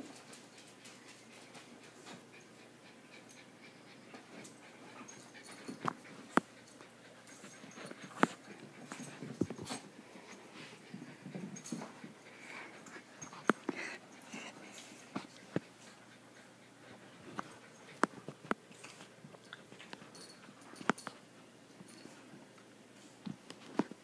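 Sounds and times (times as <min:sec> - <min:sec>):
dogs panting: 0:00.2 - 0:22.3.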